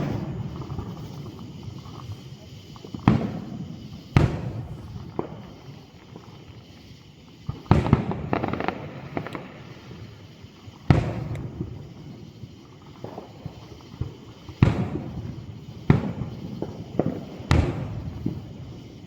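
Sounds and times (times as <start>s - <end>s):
fireworks booming: 0.0s - 19.0s
small fireworks pops: 0.0s - 19.0s.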